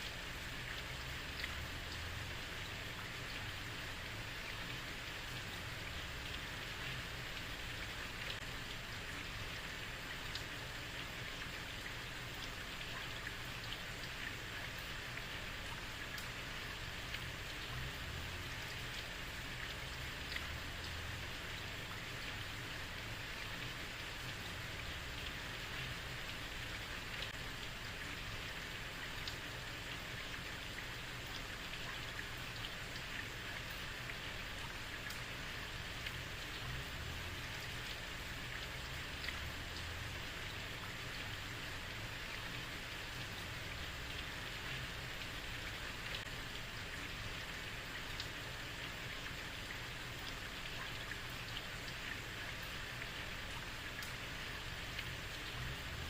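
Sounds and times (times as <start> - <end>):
heavy rain on a street: 0.0 - 56.0.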